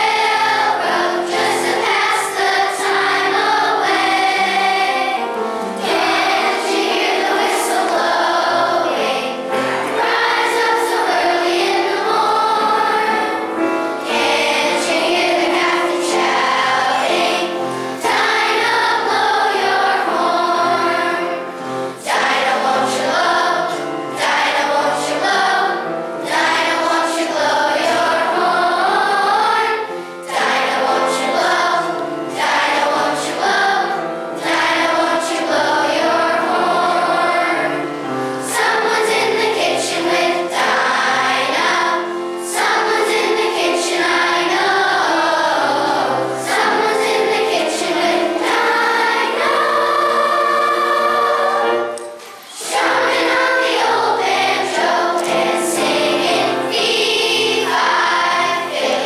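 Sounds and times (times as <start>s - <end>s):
children's choir singing: 0.0s - 59.0s
instrumental accompaniment: 0.0s - 59.0s.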